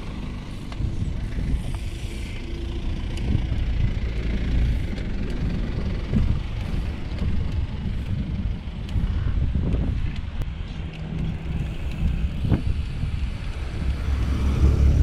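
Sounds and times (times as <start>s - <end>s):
moving vehicle rumble: 0.0s - 15.0s
wind buffeting on microphone: 0.2s - 15.0s.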